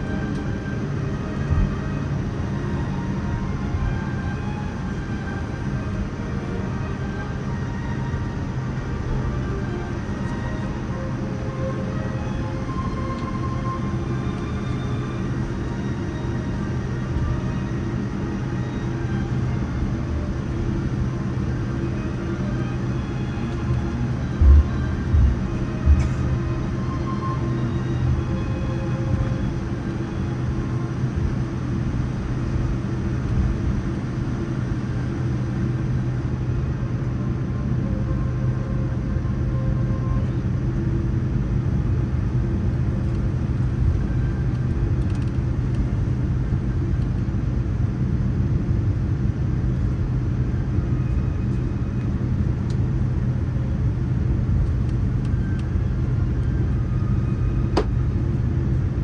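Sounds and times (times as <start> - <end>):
airliner cabin rumble and hum: 0.0 - 59.0.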